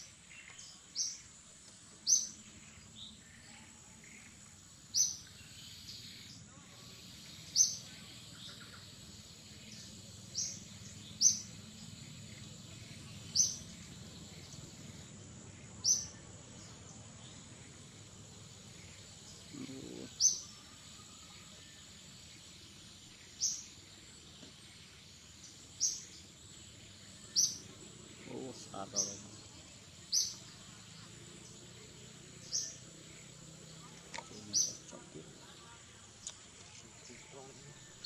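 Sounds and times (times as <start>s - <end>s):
bird chirping: 0.0s - 38.0s
high insect whine: 0.0s - 38.0s.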